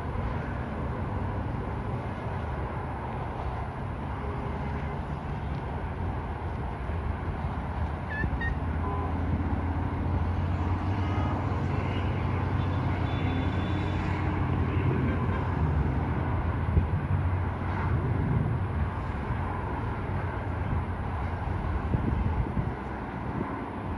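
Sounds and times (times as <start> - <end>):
traffic rumble: 0.0 - 23.9.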